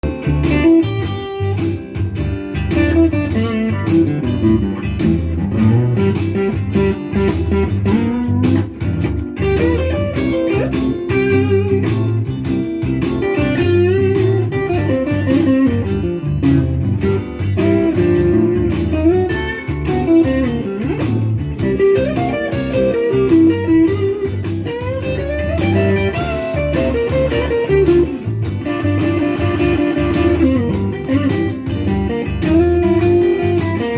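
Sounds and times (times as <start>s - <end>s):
electric guitar blues shuffle: 0.0s - 33.9s.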